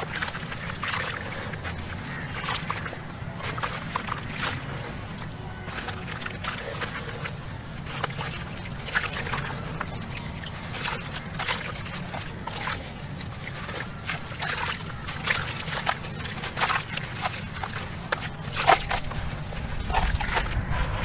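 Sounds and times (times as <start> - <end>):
water sloshing and splashing: 0.0 - 21.0
wet sand crackling: 0.0 - 21.0.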